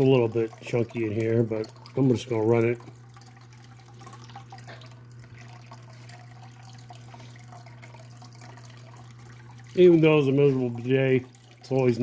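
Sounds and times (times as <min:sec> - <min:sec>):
steady low hum: 0:00.0 - 0:12.0
water trickling and dripping: 0:00.0 - 0:12.0.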